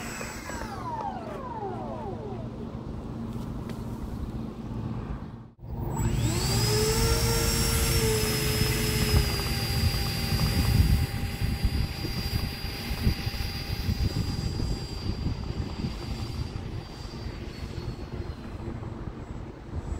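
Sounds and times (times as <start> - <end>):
model jet motors whining: 0.0 - 3.3, 5.6 - 19.9
low rumbling noise: 0.0 - 19.9.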